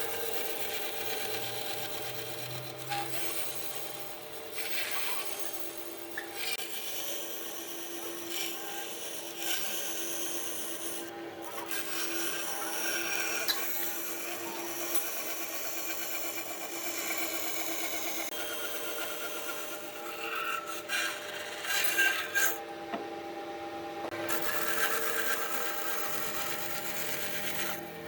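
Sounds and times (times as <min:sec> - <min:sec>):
rasp scraping wood: 0:00.0 - 0:22.6.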